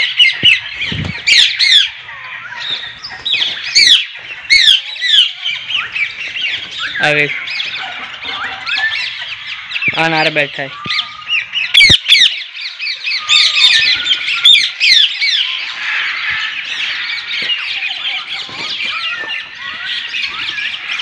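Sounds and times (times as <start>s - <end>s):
parakeets screeching and chattering: 0.0s - 21.0s.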